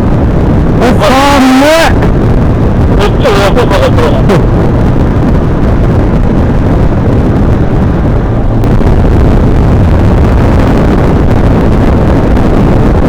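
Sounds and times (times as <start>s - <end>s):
motorcycle running: 0.0s - 13.0s
road noise: 0.0s - 13.0s
wind buffeting microphone: 0.0s - 13.0s.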